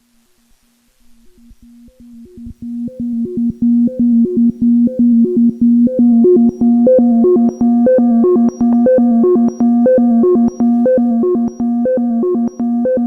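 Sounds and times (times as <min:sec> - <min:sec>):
held low synth note: 0:01.3 - 0:12.5
synthesizer sequenced pattern: 0:01.4 - 0:13.0.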